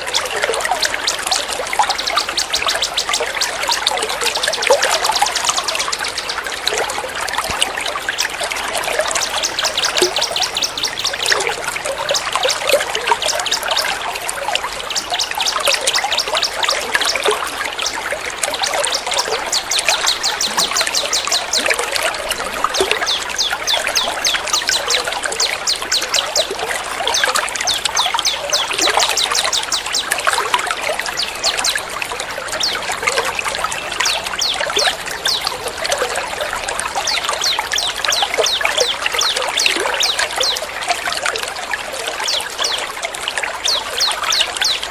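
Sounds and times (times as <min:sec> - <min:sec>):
songbird chirps: 0:00.0 - 0:44.9
trickling water: 0:00.0 - 0:44.9.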